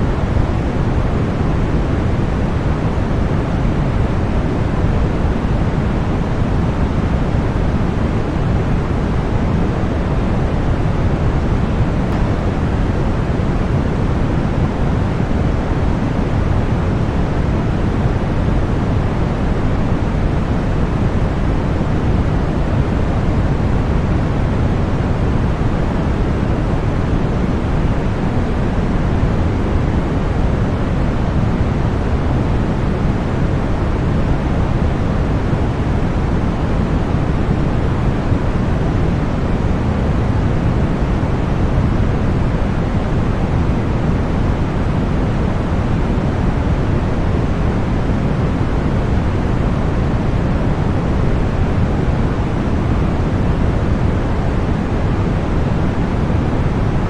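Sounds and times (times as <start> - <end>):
deep white noise: 0.0 - 57.0.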